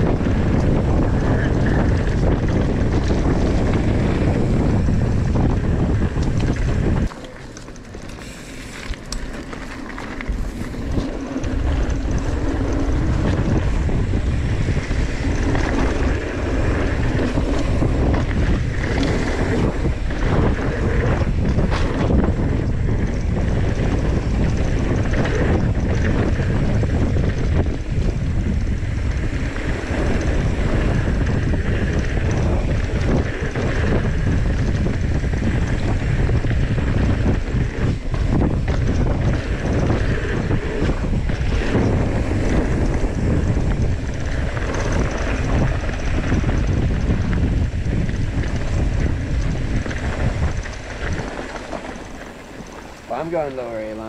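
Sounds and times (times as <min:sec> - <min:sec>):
bike clattering over bumps: 0:00.0 - 0:54.0
bike tyres rolling on dirt: 0:00.0 - 0:54.0
wind buffeting microphone: 0:00.0 - 0:54.0.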